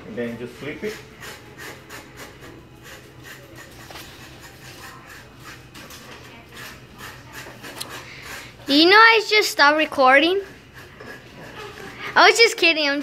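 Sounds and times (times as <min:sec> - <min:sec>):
knife scraping fish: 0:00.8 - 0:09.0, 0:10.1 - 0:12.5.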